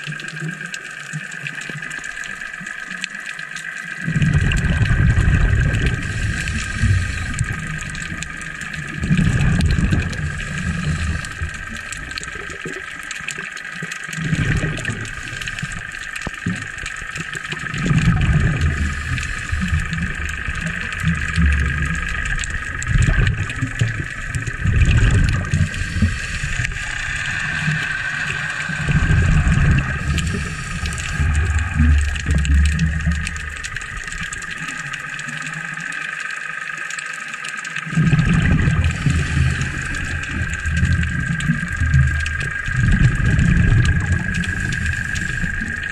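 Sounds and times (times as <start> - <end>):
regulator air bubbles: 0.0 - 45.9
steady high hum: 4.0 - 36.0, 38.1 - 45.9.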